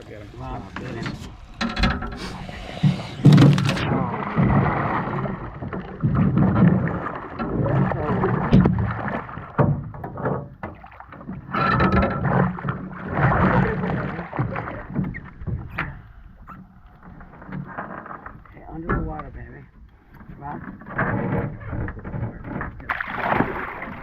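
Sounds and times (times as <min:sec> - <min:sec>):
water splashing around boat: 0:00.0 - 0:24.0.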